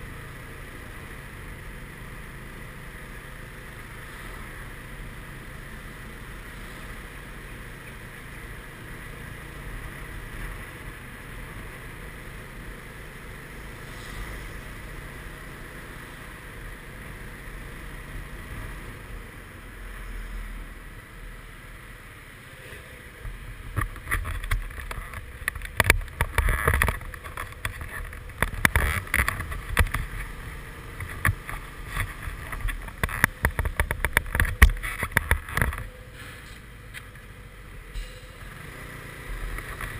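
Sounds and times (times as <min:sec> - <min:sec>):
scooter engine running: 0:00.0 - 0:19.8, 0:22.1 - 0:36.1, 0:38.4 - 0:39.9
road and wind noise: 0:00.0 - 0:39.9.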